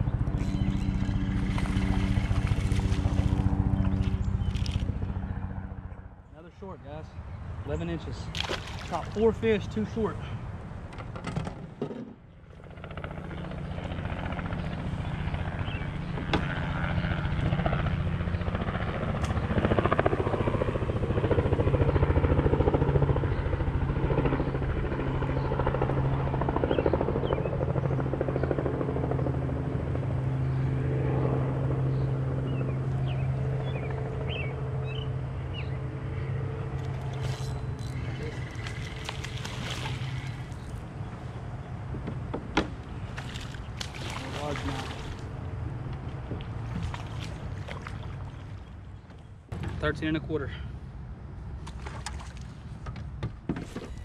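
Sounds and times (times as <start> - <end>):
low engine drone: 0.0 - 21.5, 22.3 - 52.5.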